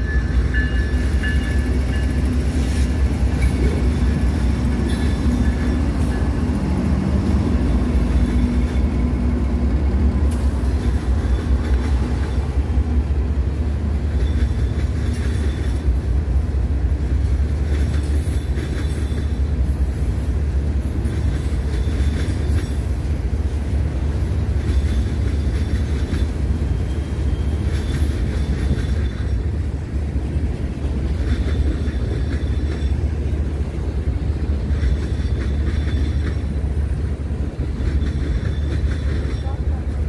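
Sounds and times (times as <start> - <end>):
train cars rumbling: 0.0 - 40.0.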